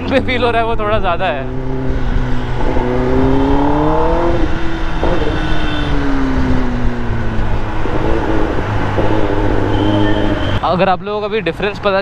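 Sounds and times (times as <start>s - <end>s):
motorcycle engine revving: 0.0s - 10.6s
wind and road noise: 0.0s - 12.0s.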